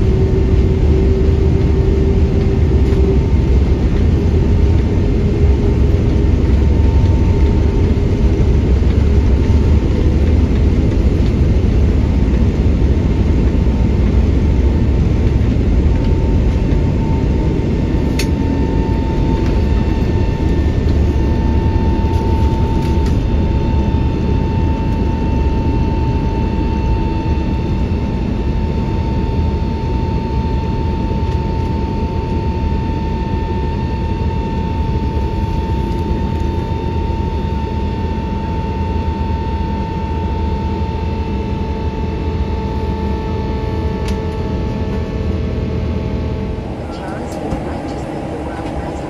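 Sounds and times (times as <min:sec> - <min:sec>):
jet engine cabin rumble: 0:00.0 - 0:49.0
steady whine: 0:00.0 - 0:49.0.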